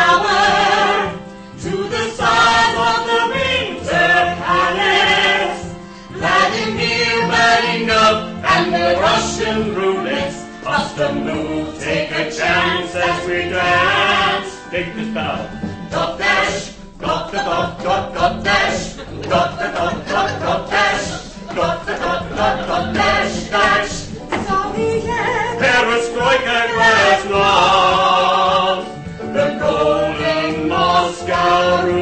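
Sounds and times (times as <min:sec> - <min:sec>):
musical accompaniment: 0:00.0 - 0:32.0
people singing show tune: 0:00.0 - 0:32.0.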